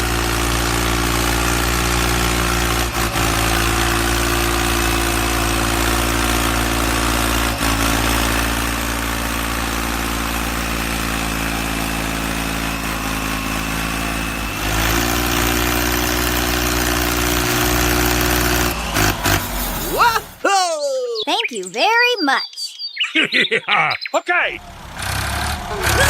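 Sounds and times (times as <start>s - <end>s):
engine idling: 0.0s - 20.4s, 24.6s - 26.0s.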